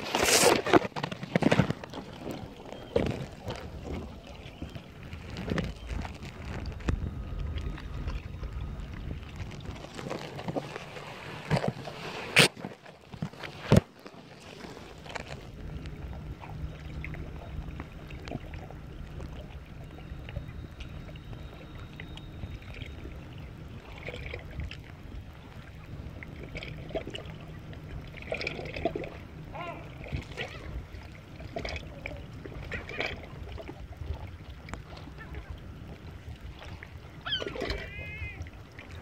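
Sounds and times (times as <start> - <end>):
muffled underwater rumble: 0.0 - 39.0.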